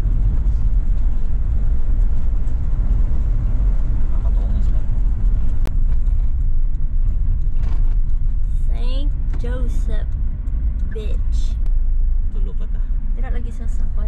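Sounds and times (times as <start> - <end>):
engine and tyre rumble: 0.0 - 14.0.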